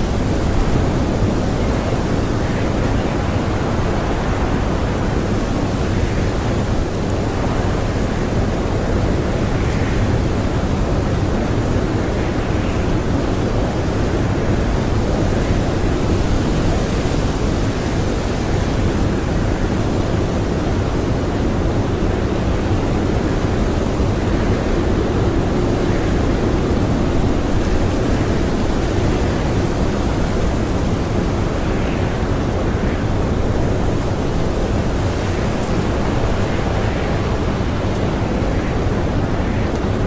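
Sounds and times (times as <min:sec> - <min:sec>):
blizzard wind blowing: 0:00.0 - 0:40.0.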